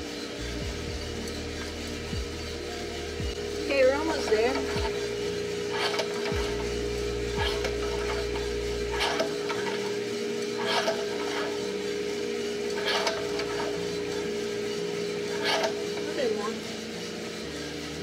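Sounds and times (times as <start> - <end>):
coffee roaster humming: 0.0 - 18.0
lower hum: 0.0 - 18.0
scraping rasp: 0.0 - 18.0.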